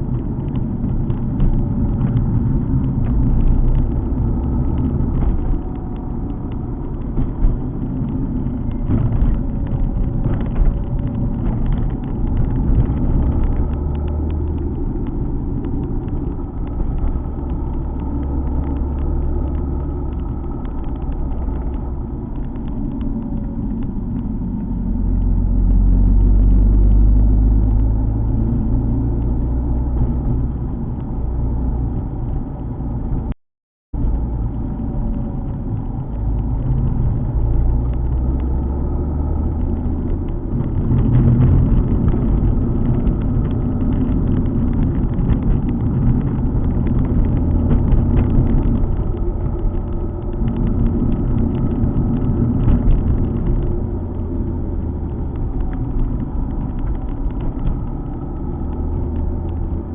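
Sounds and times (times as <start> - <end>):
car engine drone: 0.0 - 59.9
road rumble: 0.0 - 59.9.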